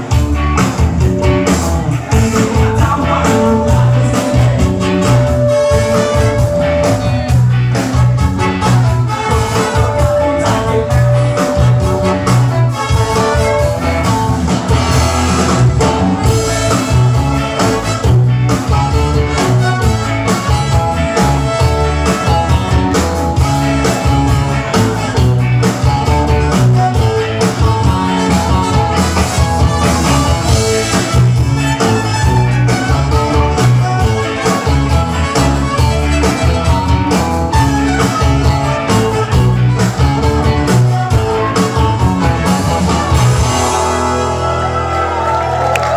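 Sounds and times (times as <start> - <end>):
ska band playing live: 0.0 - 45.9.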